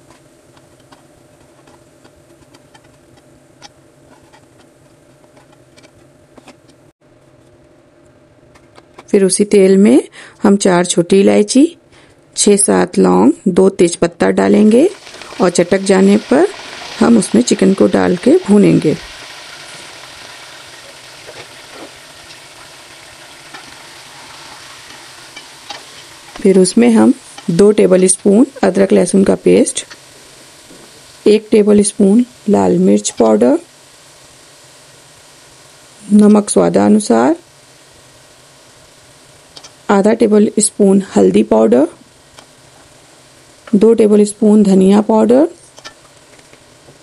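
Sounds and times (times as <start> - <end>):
frying oil crackling: 0.0 - 6.9, 14.3 - 47.0.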